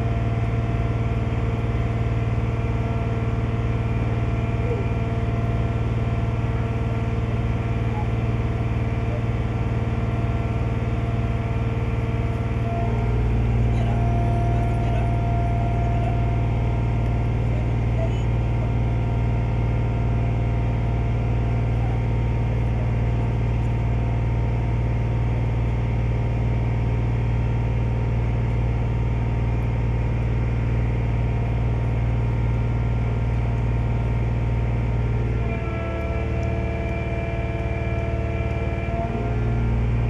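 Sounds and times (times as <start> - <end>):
ferry engine drone: 0.0 - 40.0.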